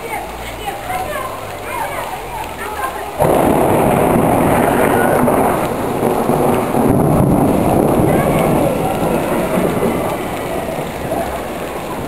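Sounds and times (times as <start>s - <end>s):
heavy downpour: 0.0s - 12.0s
running water: 0.0s - 12.0s.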